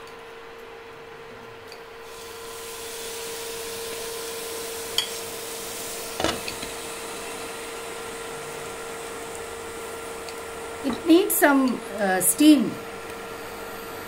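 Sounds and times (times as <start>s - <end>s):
faint steady hum: 0.0s - 14.0s
water sizzling on hot pan: 2.0s - 14.0s.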